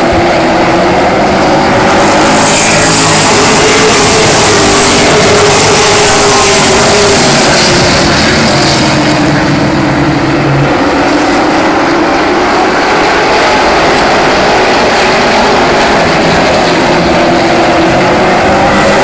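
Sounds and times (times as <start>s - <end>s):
racing trucks at full throttle: 0.0s - 19.0s.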